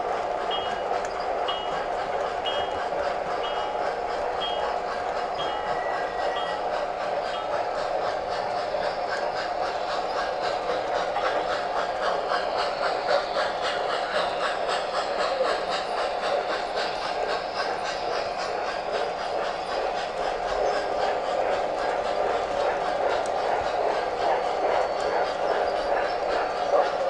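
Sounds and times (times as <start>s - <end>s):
model train rumbling: 0.0s - 27.0s
rhythmic track clicking: 0.0s - 27.0s.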